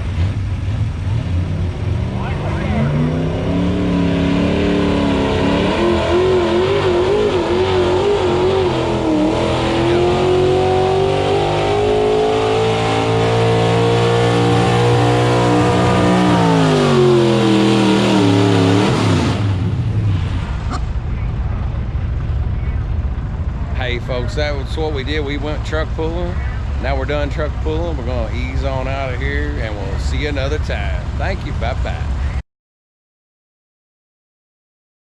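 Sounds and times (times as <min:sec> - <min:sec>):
truck engine at full throttle: 0:00.0 - 0:32.4.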